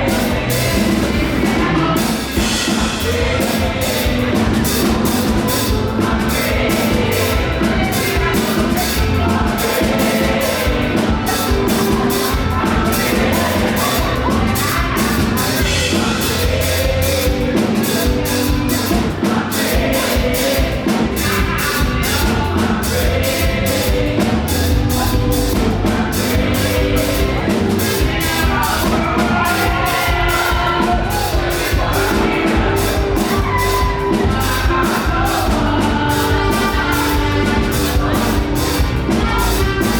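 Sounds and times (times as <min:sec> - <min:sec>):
gospel band with drum kit: 0:00.0 - 0:39.9
group singing: 0:00.0 - 0:39.9.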